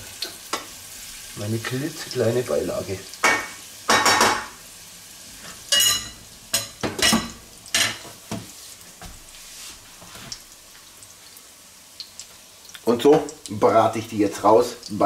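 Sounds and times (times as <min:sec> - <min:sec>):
slices sizzling in oil: 0:00.0 - 0:15.0.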